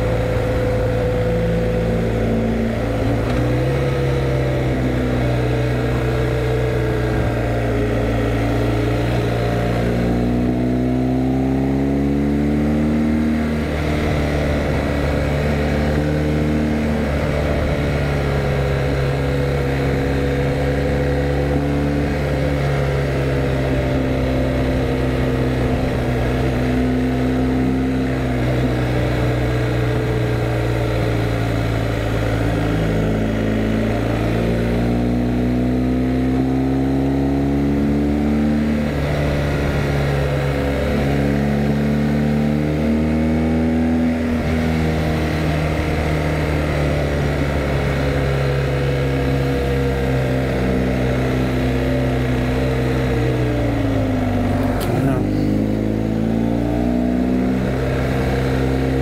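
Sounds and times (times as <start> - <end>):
motorcycle engine accelerating: 0.0 - 59.0
wind and road rush: 0.0 - 59.0.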